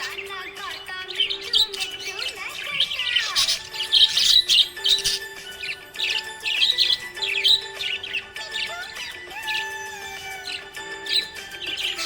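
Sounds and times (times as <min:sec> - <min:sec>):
held musical tones: 0:00.0 - 0:12.0
small parrots chirping: 0:00.0 - 0:12.0.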